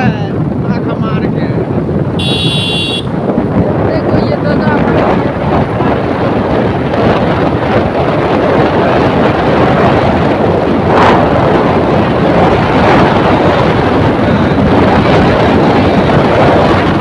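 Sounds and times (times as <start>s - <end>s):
moving vehicle rushing: 0.0s - 17.0s
wind on microphone: 0.0s - 17.0s.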